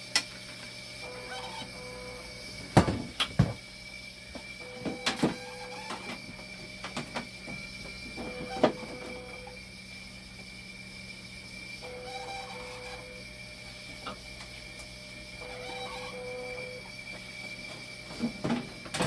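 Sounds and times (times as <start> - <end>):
machine whine and hum: 0.0 - 19.0.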